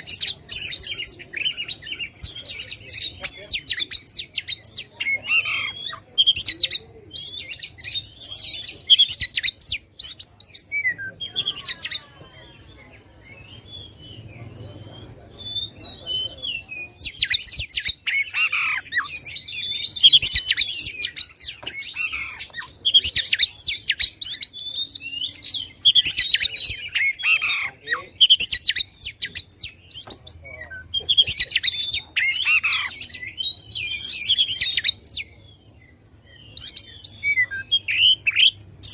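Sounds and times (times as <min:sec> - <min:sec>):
songbird chirping and whistling: 0:00.0 - 0:38.9.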